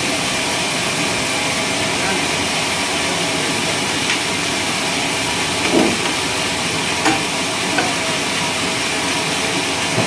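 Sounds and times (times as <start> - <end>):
sawmill machinery running: 0.0 - 10.0.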